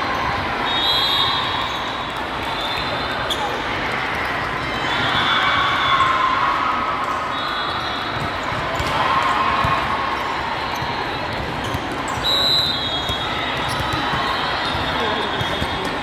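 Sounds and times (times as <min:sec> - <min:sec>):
echoing crowd din in hall: 0:00.0 - 0:16.0.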